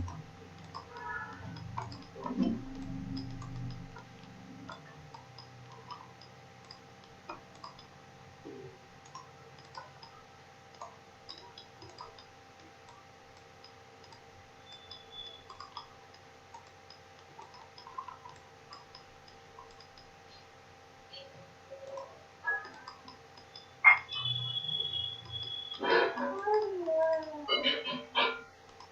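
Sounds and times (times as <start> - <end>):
computer mouse clicking: 0.0 - 20.5, 21.1 - 27.5, 28.6 - 28.9
faint steady hum: 0.0 - 28.9.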